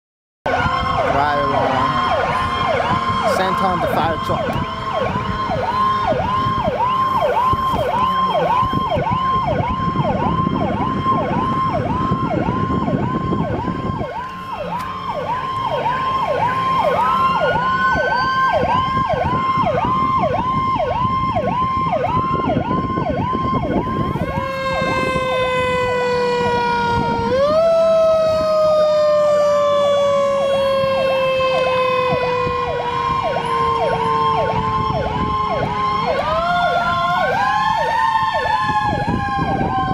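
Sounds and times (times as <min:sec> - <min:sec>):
siren rapid yelp: 0:00.5 - 0:39.9
siren wail rising and falling: 0:00.5 - 0:39.9.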